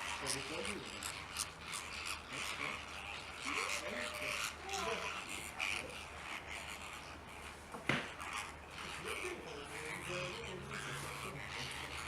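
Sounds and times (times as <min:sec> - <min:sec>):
bird calls: 0:00.0 - 0:12.0
distant voices chattering: 0:00.0 - 0:12.0.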